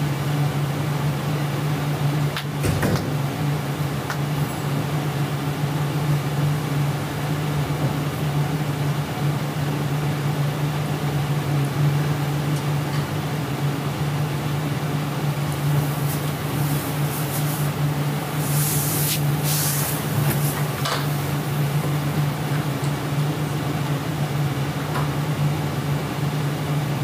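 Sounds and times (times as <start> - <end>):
low hum with hiss: 0.0 - 27.0.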